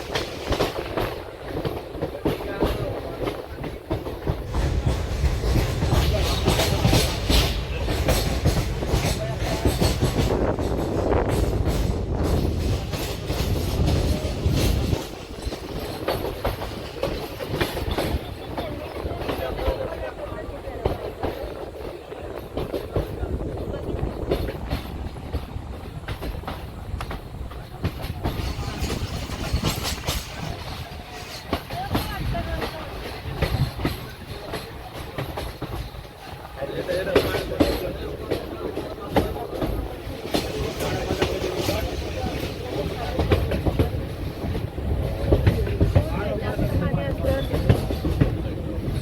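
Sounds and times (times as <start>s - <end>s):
train rumbling along track: 0.0s - 49.0s
wheels clattering over rail joints: 0.0s - 49.0s.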